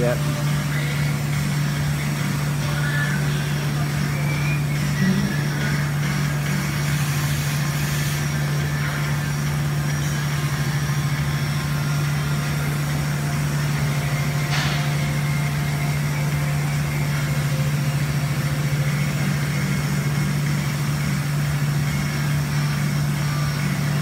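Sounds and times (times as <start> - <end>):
welding equipment humming: 0.0 - 24.0.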